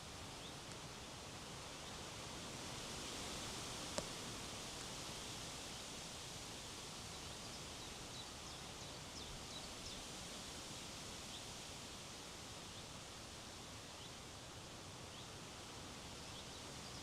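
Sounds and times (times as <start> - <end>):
wind rustling through trees: 0.0 - 17.0.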